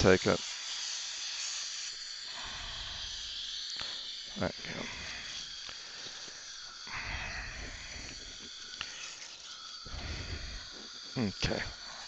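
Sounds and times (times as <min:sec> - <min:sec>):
suction tip hissing: 0:00.0 - 0:12.0.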